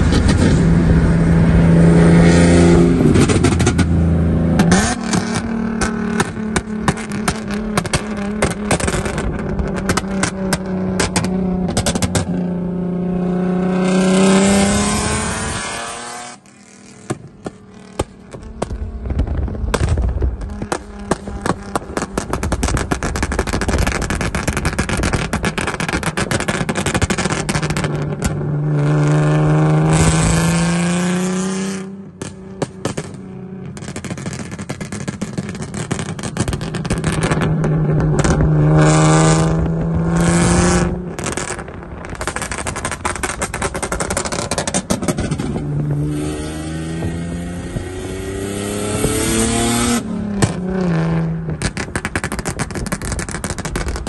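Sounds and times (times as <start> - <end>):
car engine revving: 0.0 - 54.0
car exhaust crackling and popping: 0.0 - 54.0.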